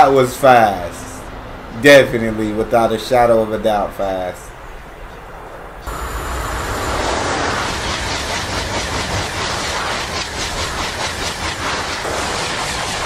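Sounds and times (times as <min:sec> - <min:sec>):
train rush of air and wheels: 0:00.0 - 0:13.0.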